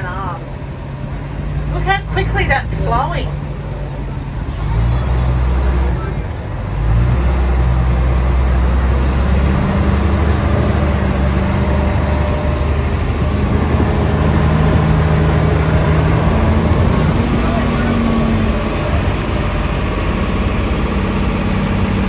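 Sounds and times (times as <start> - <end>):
bus engine running: 0.0 - 22.0
road and tyre noise: 0.0 - 22.0.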